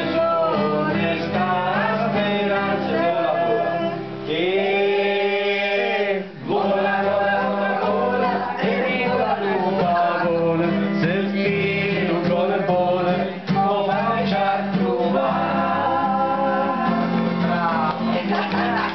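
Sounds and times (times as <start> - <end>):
group singing in unison: 0.0 - 18.9.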